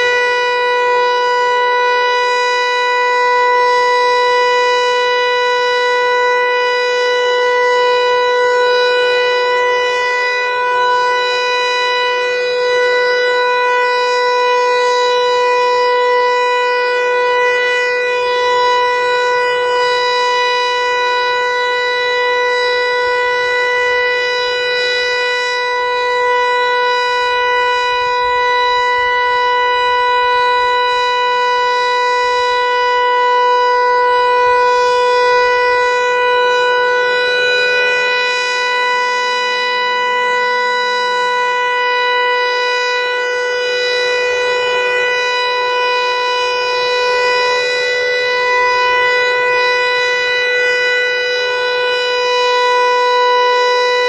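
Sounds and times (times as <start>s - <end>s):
warning siren steady tone: 0.0s - 54.0s.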